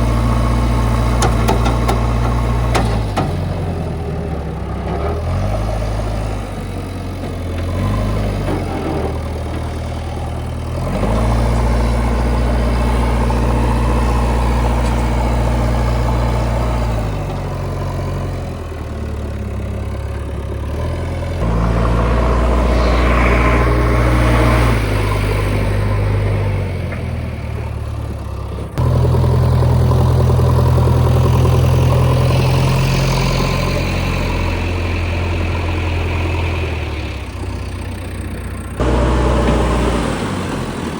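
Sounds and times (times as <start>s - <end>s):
heavy diesel engine working: 0.0s - 40.9s.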